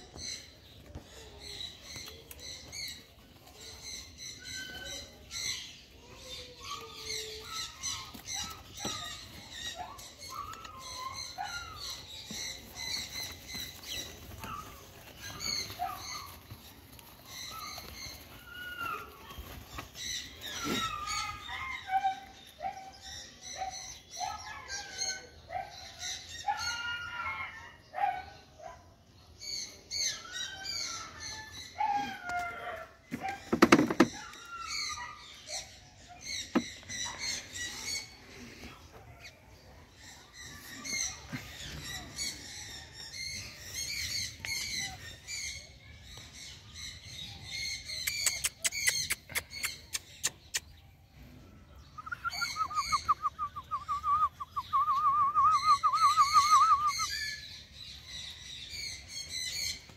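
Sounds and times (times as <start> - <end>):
small birds chirping: 0.0 - 27.0, 27.9 - 59.9.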